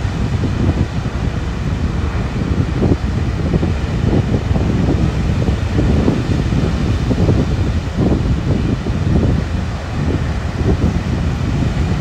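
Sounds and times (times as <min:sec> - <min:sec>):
small waves breaking on shore: 0:00.0 - 0:12.0
wind buffeting microphone: 0:00.0 - 0:12.0.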